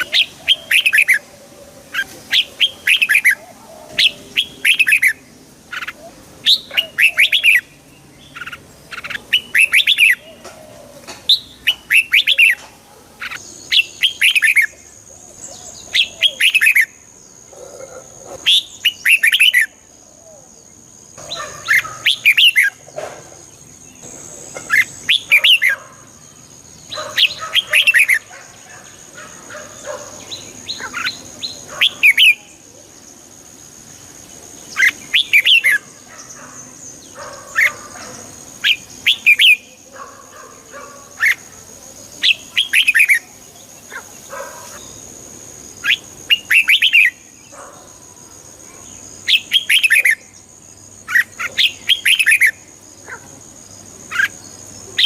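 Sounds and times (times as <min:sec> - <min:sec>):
bird singing chirpy phrases: 0:00.0 - 0:55.0.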